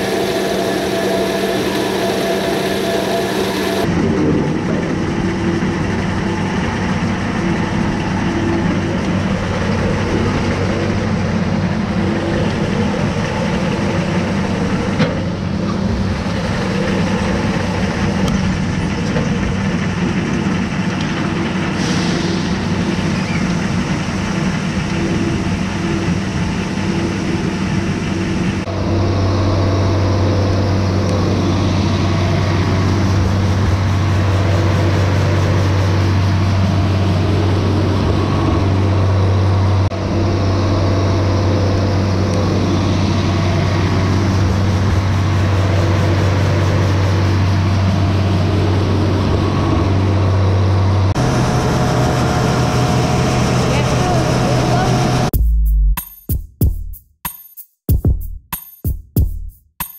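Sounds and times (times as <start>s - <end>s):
heavy machinery engine hum: 0.0s - 55.3s.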